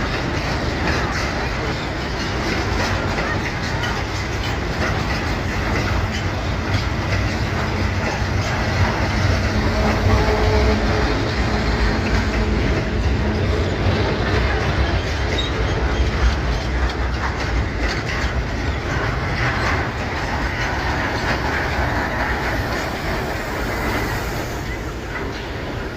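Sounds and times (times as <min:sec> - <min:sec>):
train wheels clacking over rail joints: 0:00.0 - 0:25.9.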